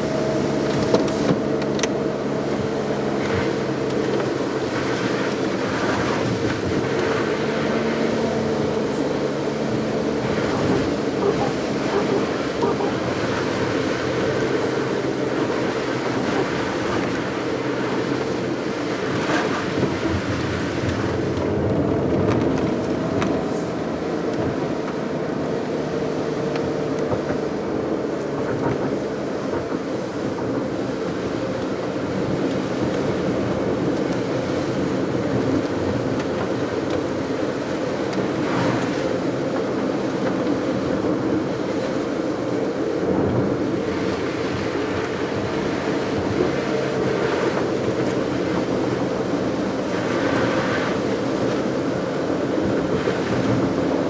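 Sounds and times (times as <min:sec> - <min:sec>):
car engine running: 0:00.0 - 0:54.0
tyre noise on wet road: 0:00.0 - 0:54.0.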